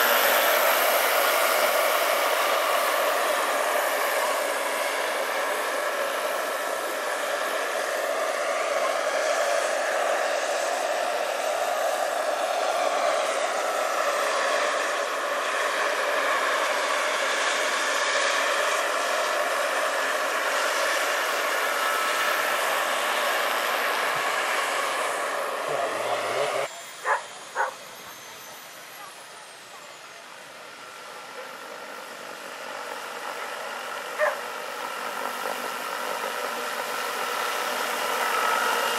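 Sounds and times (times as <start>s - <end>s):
model helicopter rotor whirring: 0.0s - 38.9s.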